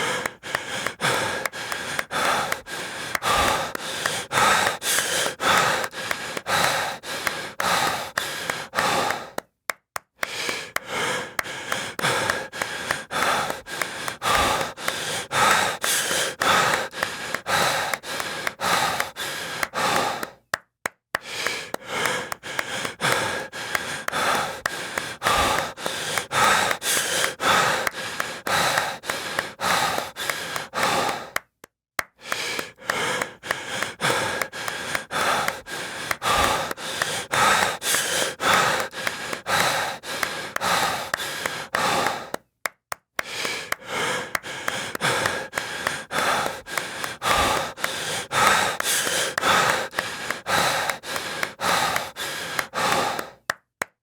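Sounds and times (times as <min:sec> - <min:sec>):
heavy breathing: 0:00.0 - 0:09.5, 0:10.2 - 0:20.6, 0:21.2 - 0:31.5, 0:32.2 - 0:42.5, 0:43.2 - 0:53.6
rhythmic claps: 0:00.0 - 0:54.0.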